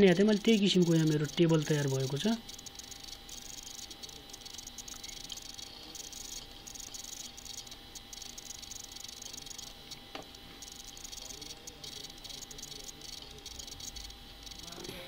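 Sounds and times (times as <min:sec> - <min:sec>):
high-pitched chirring hiss: 0:00.0 - 0:15.0.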